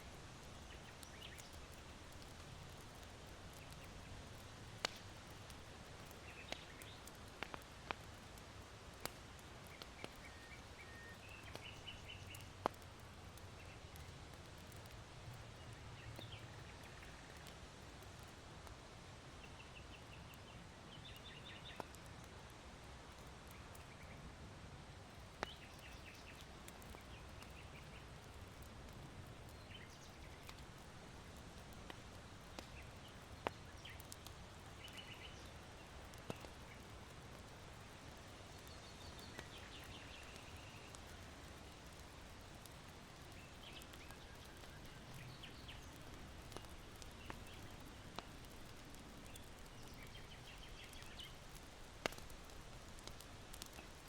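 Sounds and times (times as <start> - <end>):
charcoal fire popping: 0.0 - 54.0
soft hiss of wind: 0.0 - 54.0
small birds chirping: 0.2 - 8.3, 9.0 - 18.3, 19.4 - 22.3, 25.1 - 54.0.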